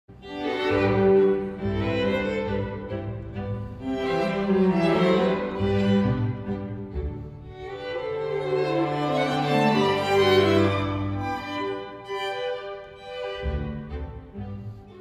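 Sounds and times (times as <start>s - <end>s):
string ensemble playing slow passage: 0.1s - 15.0s.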